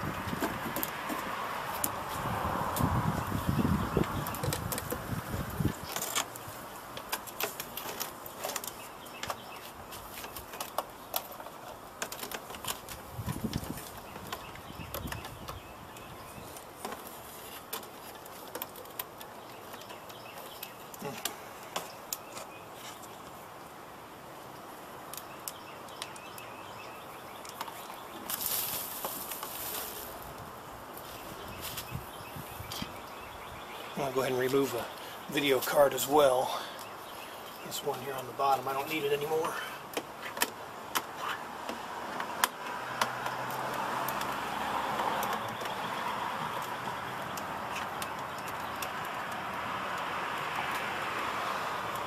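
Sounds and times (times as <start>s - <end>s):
outdoor background noise: 0.0s - 52.0s
rustle: 0.0s - 52.0s.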